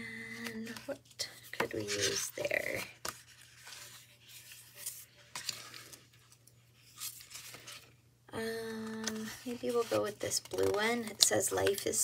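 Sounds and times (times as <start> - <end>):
paper pages rustling: 0.4 - 8.0, 8.8 - 12.0.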